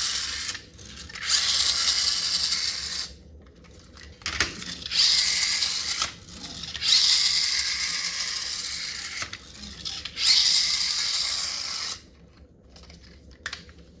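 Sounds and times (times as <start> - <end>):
toy motor and gearbox whirring: 0.0 - 3.2, 4.0 - 12.1.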